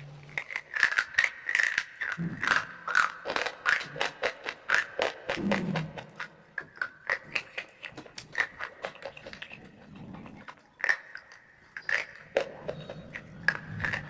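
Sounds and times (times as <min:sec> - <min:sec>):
crunchy food being chewed: 0:00.0 - 0:14.0.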